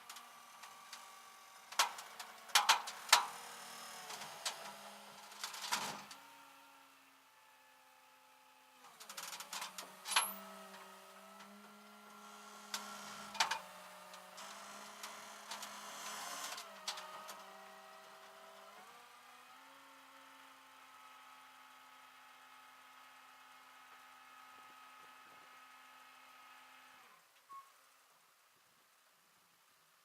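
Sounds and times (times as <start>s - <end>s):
mechanical hum: 0.0s - 27.9s.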